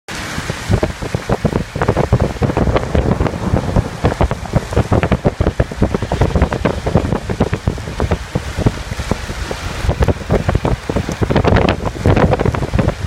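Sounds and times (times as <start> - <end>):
heavy rain: 0.1 - 13.0
raindrops tapping hard surface: 0.6 - 13.0.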